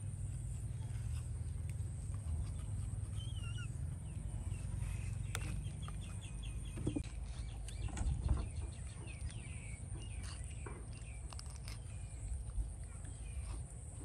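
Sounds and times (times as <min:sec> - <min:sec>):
birds chirping: 0:00.0 - 0:14.0
outdoor background noise: 0:00.0 - 0:14.0.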